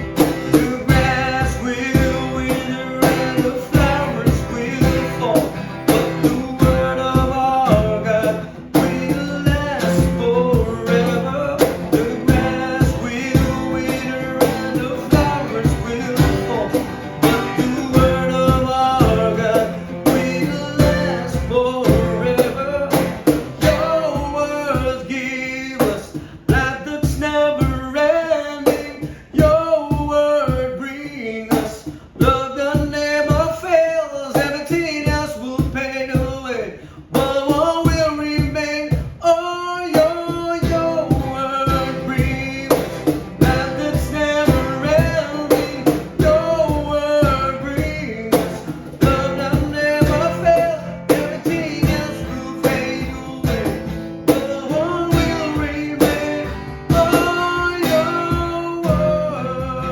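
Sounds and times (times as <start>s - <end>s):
steady drum beat: 0.0s - 33.7s, 34.3s - 39.2s, 39.9s - 59.9s
guitar accompaniment: 0.0s - 59.9s
person singing: 0.0s - 59.9s.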